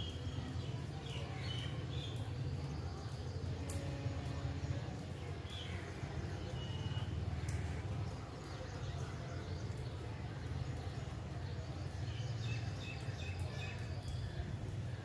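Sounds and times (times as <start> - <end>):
faint hiss of weather: 0.0 - 15.0.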